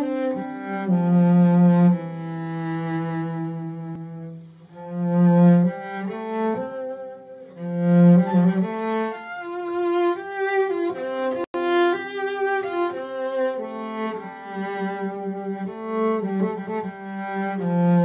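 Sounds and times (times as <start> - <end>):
bowed cello melody: 0.0 - 18.0.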